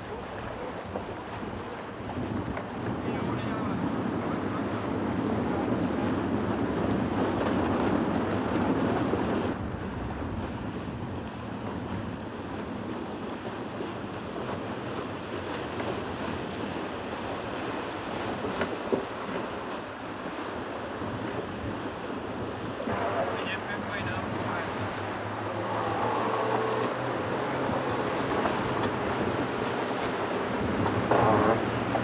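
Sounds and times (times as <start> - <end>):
sea water rushing and waves: 0.0 - 32.0
wind buffeting microphone: 0.0 - 32.0.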